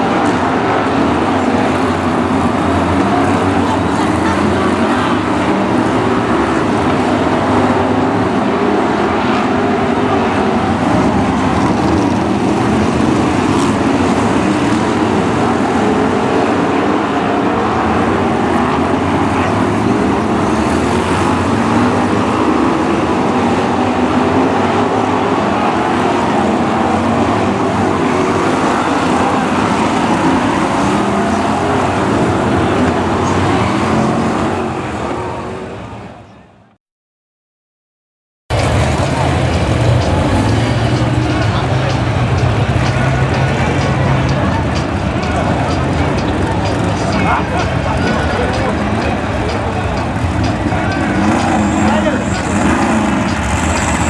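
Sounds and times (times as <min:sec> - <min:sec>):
stock car engines racing: 0:00.0 - 0:36.7, 0:38.5 - 0:54.0.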